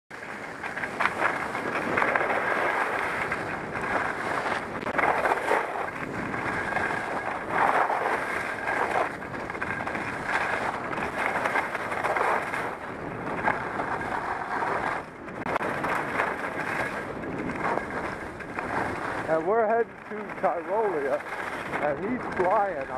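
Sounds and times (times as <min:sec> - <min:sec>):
skis scraping on snow: 0:00.1 - 0:22.9
wind on microphone: 0:00.1 - 0:22.9.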